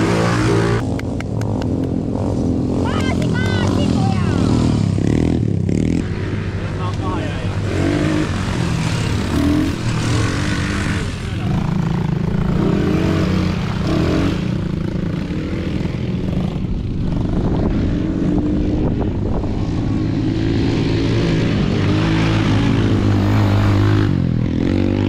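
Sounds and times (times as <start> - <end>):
quad bike engines revving: 0.0 - 25.0.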